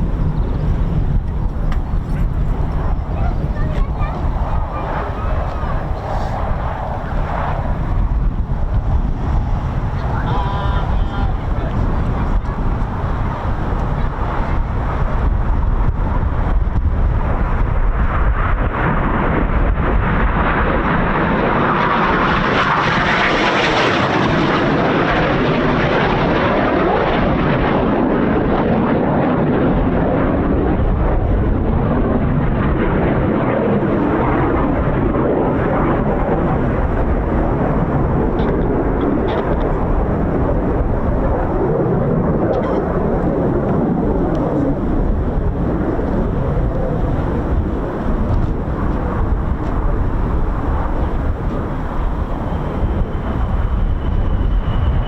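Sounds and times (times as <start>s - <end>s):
jet aircraft roaring past: 0.0s - 55.0s.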